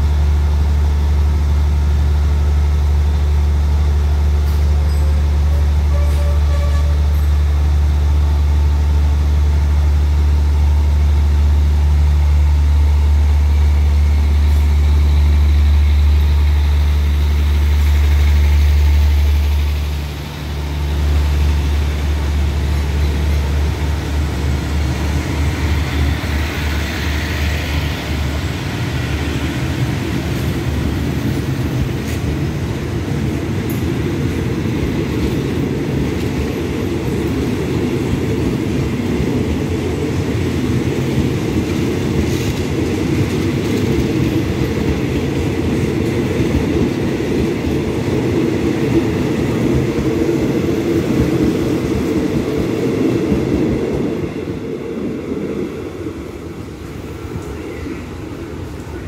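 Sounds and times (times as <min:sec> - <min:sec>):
diesel train engine hum: 0:00.0 - 0:59.0
train wheels rumbling on rails: 0:00.0 - 0:59.0.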